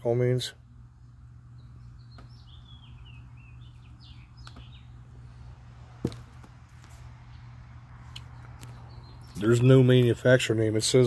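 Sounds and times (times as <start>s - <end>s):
low steady hum: 0.0s - 11.0s
small birds chirping: 0.6s - 11.0s.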